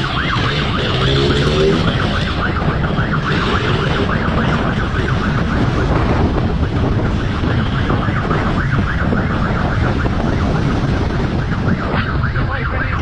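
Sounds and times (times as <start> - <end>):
electronic siren warbling: 0.0 - 13.0
wind and road noise rumble: 0.0 - 13.0.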